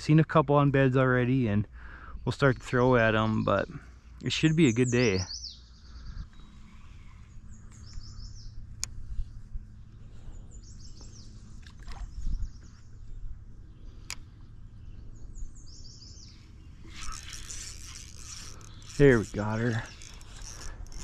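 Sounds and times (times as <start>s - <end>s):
steady low rumble: 0.0s - 17.2s
songbirds singing: 0.0s - 21.0s.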